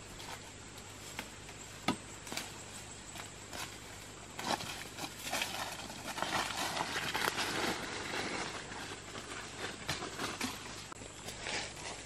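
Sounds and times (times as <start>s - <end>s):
dry leaves and twigs crackling: 0.0s - 12.0s.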